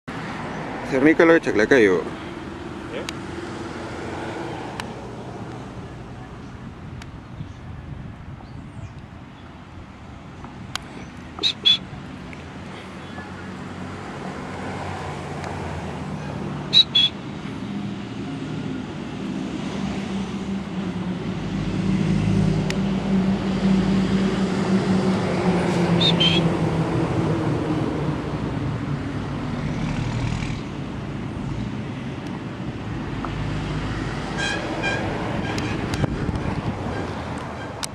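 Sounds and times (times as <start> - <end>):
vehicle engines passing: 0.1 - 37.9.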